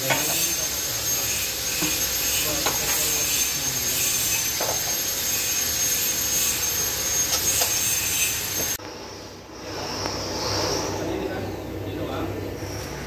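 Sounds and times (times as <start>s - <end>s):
mechanical whirring with whine: 0.0s - 13.0s.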